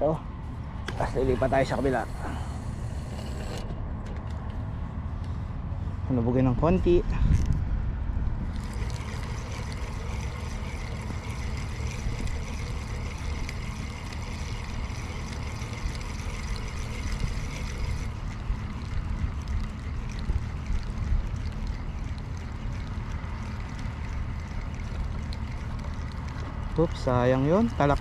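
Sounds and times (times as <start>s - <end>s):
wind buffeting microphone: 0.9s - 28.0s.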